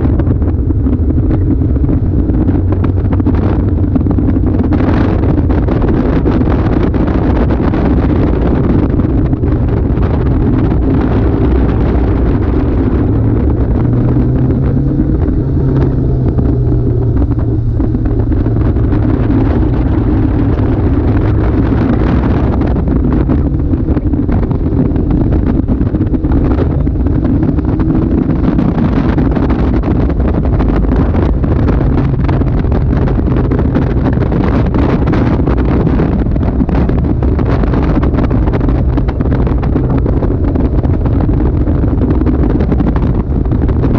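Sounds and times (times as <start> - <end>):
car engine revving: 0.0 - 43.9
wind buffeting microphone: 0.0 - 43.9.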